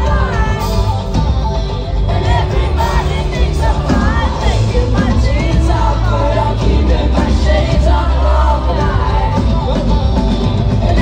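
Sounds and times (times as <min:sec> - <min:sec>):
man singing lead vocal: 0:00.0 - 0:11.0
pop-rock band playing: 0:00.0 - 0:11.0.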